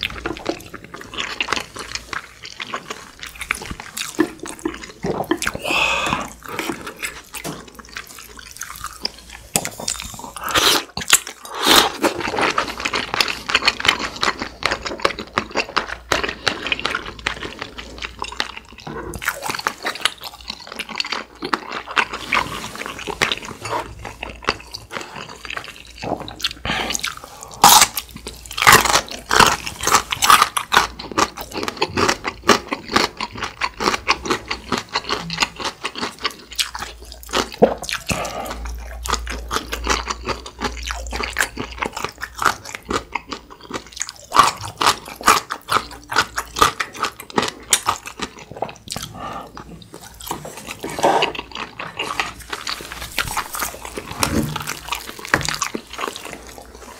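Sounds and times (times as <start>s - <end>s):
wet chewing: 0.0s - 56.9s.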